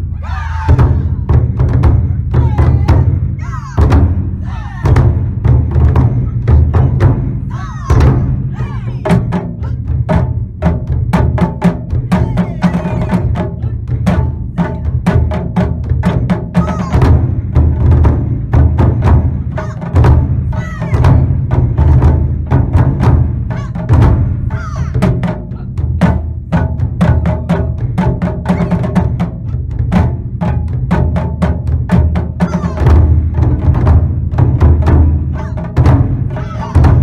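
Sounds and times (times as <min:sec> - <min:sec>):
large drums booming: 0:00.0 - 0:37.0.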